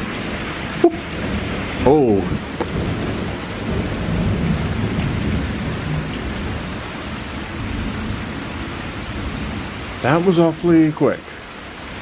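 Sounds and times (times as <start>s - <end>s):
thunder rumbling: 0.0s - 10.8s
heavy rain pouring: 0.0s - 12.0s.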